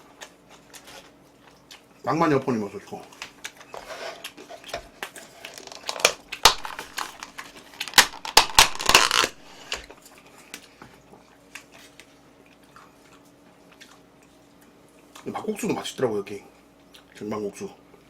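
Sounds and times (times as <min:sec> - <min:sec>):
food crinkling and chewing: 0:00.0 - 0:02.0, 0:02.8 - 0:15.4, 0:16.7 - 0:17.2
faint steady hum: 0:00.0 - 0:18.0.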